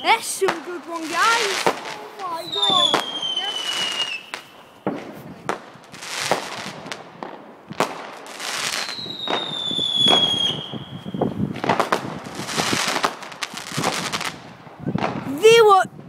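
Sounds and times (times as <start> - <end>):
whistling firework: 0.0 - 15.3
fireworks banging and crackling: 0.0 - 16.0.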